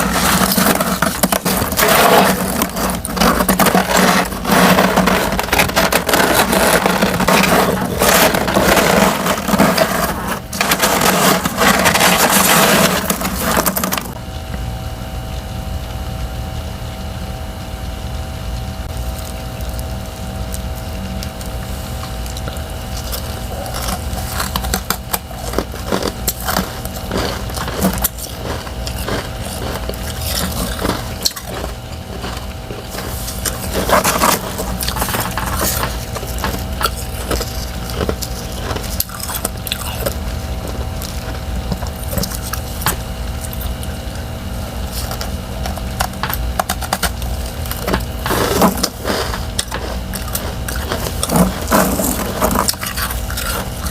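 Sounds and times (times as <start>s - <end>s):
ice crunching and crackling: 0.0s - 14.2s, 18.9s - 53.9s
steady low hum: 0.0s - 53.9s.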